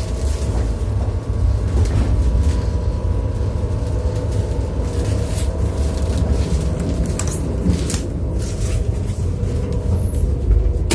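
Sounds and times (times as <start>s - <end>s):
train rumbling on rails: 0.0s - 10.9s.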